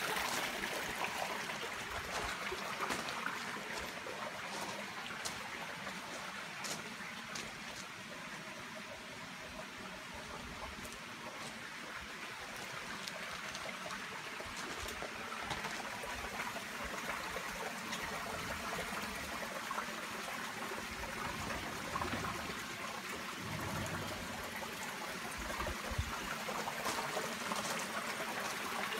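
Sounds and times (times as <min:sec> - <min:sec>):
creek trickling over stones: 0:00.0 - 0:28.9.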